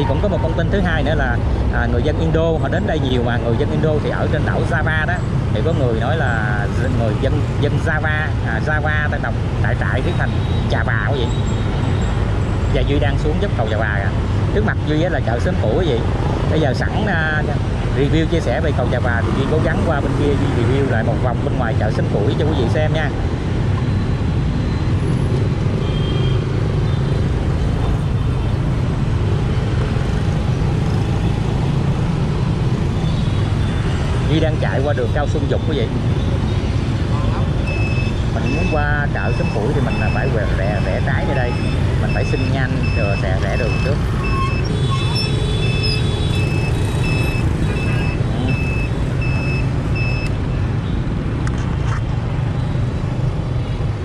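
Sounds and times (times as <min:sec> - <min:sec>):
hum of motorbikes: 0:00.0 - 0:54.0
scooter engine and road drone: 0:00.0 - 0:54.0.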